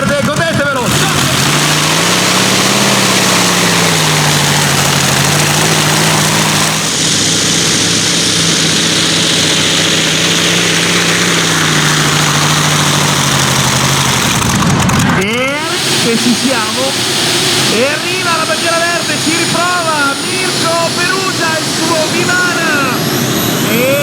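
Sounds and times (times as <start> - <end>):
tractor engine running hard: 0.0 - 24.0
bright rushing noise: 0.8 - 24.0.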